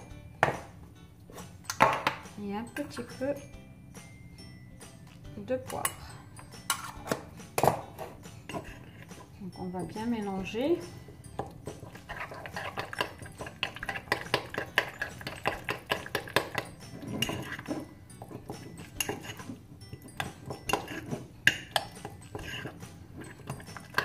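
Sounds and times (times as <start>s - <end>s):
spoon clinking in ceramic dish: 4.4s - 24.0s.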